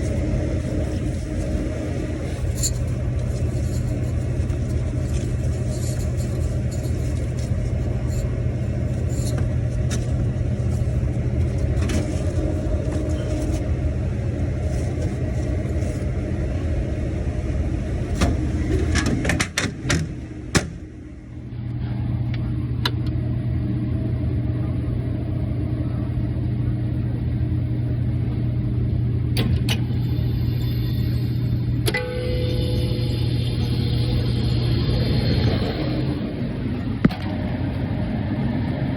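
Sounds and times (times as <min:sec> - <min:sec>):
refrigerated unit low hum: 0:00.0 - 0:38.9.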